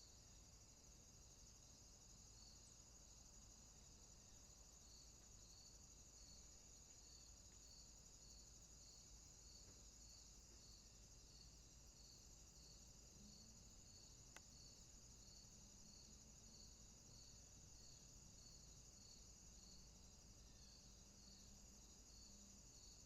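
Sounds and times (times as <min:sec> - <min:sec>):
insect chirp: 0:00.0 - 0:23.0.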